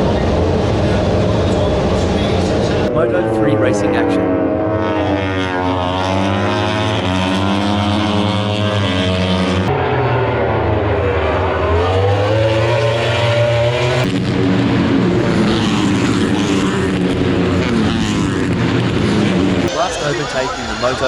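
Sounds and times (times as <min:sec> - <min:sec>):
race bike engines passing: 0:00.0 - 0:21.0.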